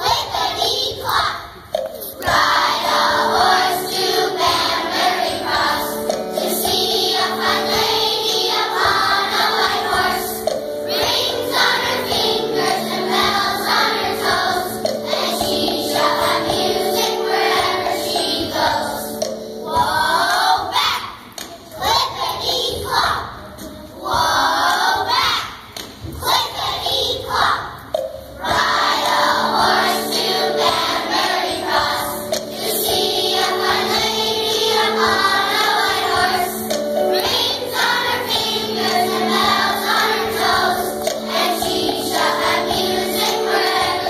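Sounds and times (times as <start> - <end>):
children's choir singing: 0.0 - 44.0
instrumental accompaniment: 0.0 - 44.0.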